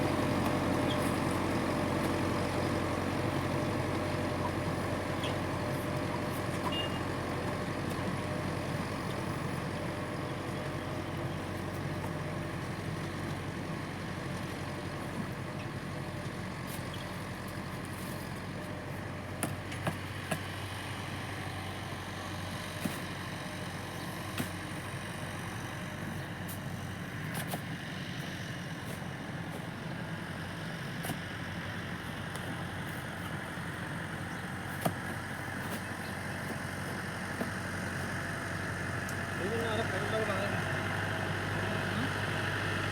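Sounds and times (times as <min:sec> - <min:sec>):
tractor engine idling: 0:00.0 - 0:42.9.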